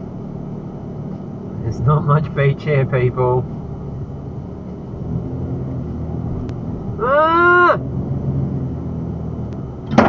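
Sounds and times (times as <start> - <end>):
vehicle engine droning on sand: 0.0 - 10.0.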